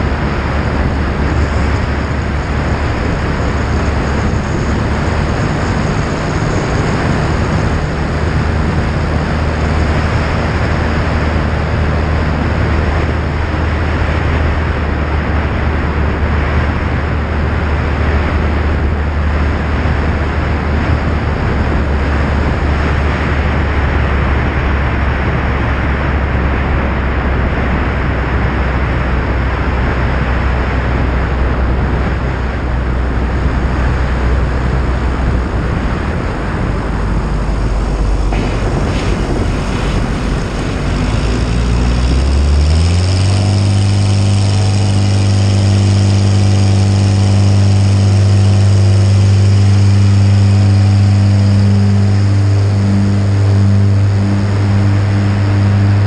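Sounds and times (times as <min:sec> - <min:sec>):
light aircraft engine drone: 0:00.0 - 0:56.0
wind rush on microphone: 0:00.0 - 0:56.0.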